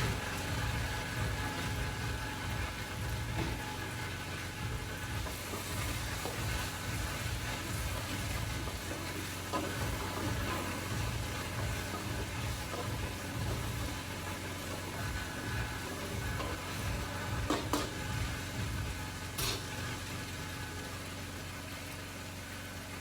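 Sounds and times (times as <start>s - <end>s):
sizzling hiss: 0.0s - 21.9s
pot cooking on stove rumble: 0.0s - 23.0s.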